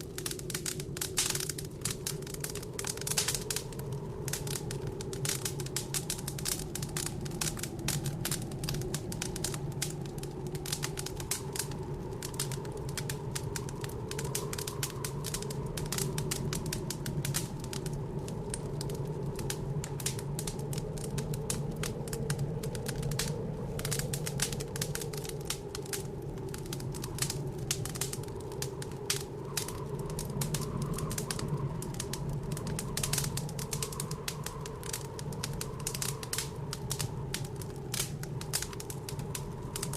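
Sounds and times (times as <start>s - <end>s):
blizzard wind howling: 0.0s - 39.9s
wood fire crackling: 0.0s - 39.9s.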